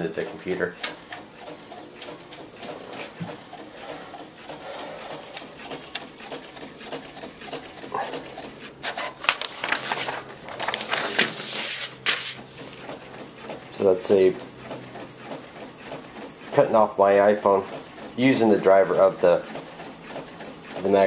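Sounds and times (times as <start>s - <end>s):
printer clicks and paper feed: 0.0s - 21.0s.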